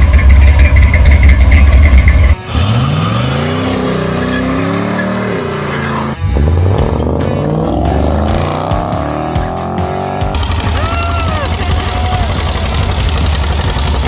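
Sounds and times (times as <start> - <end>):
engine low rumble: 0.0 - 5.2, 6.0 - 14.0
engine revving: 0.3 - 14.0.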